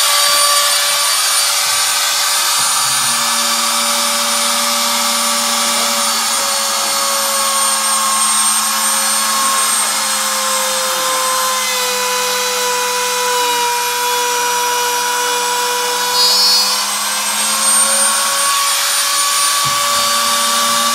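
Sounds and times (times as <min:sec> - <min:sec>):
router whining cutting wood: 0:00.0 - 0:20.9.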